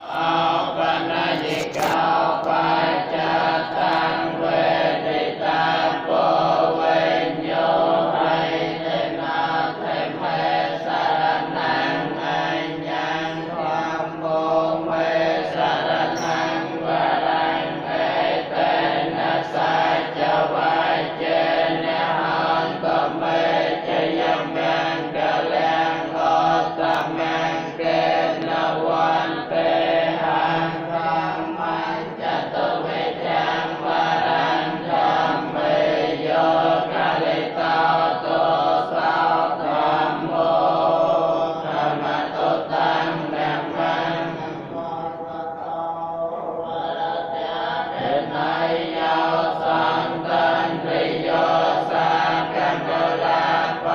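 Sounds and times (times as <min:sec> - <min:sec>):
monks chanting: 0:00.0 - 0:53.9.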